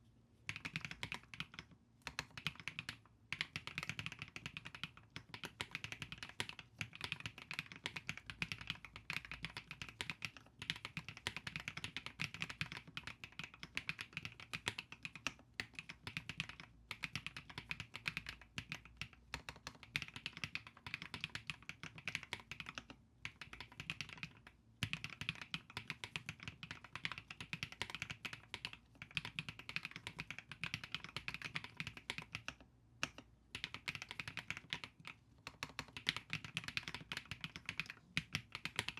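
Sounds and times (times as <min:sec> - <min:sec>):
mechanical keyboard typing: 0:00.5 - 0:38.9.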